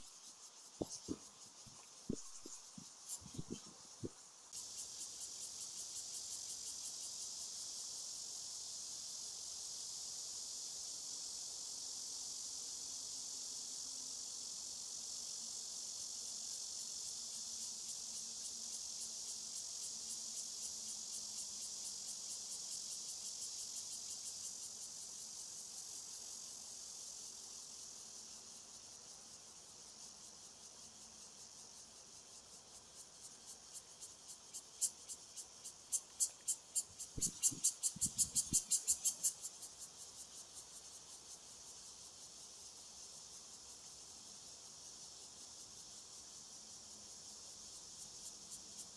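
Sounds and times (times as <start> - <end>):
insects buzzing: 0.0 - 48.9.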